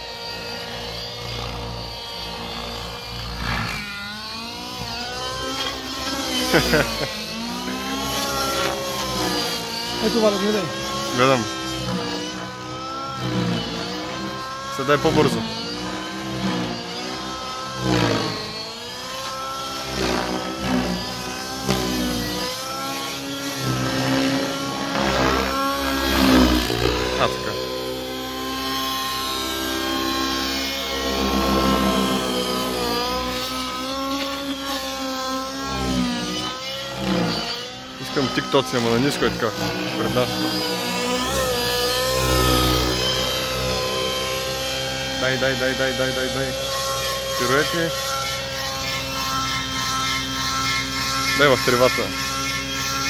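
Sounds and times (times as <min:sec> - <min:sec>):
model helicopter rotor whine: 0:00.0 - 0:53.0.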